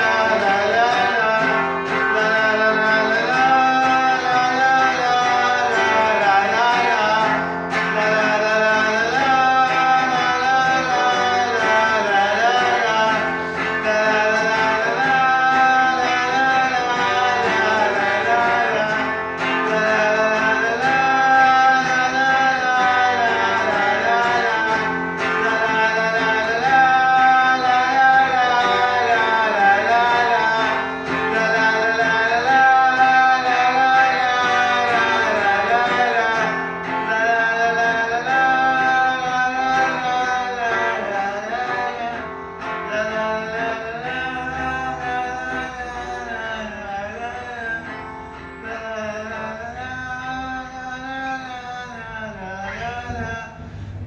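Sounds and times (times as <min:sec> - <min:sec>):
acoustic guitar plucked and strummed: 0:00.0 - 0:54.0.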